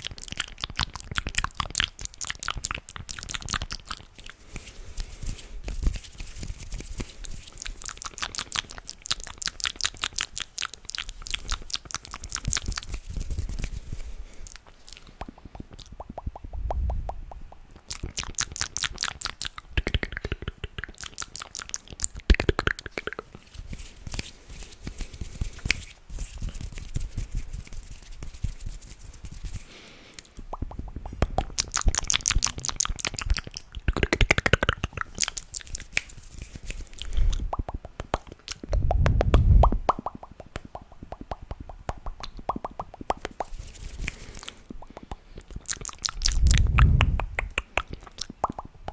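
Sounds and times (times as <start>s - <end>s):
wet mouth clicks and crackles: 0.0s - 48.9s.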